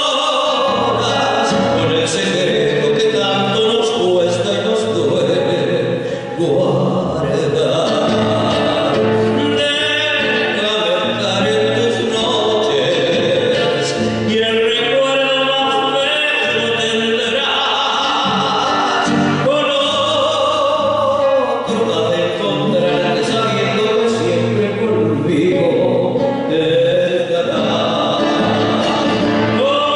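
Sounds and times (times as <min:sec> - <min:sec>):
person singing folk song: 0:00.0 - 0:29.9.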